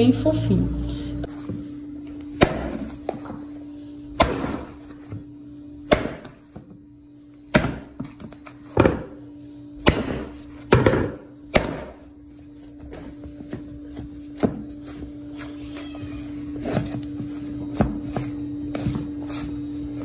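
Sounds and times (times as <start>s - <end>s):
steady low hum: 0.0s - 20.0s
dough kneading thuds: 1.3s - 20.0s
dough squishing: 1.3s - 20.0s.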